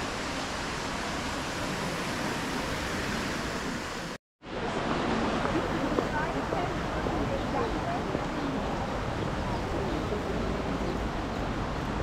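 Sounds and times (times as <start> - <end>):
rushing street ambience: 0.0 - 12.0.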